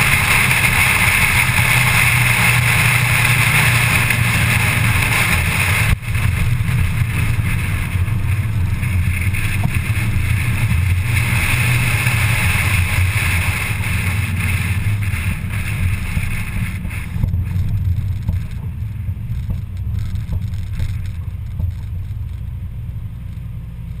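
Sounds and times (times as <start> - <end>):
race car engine running: 0.0 - 24.0
road and wind noise: 0.0 - 24.0.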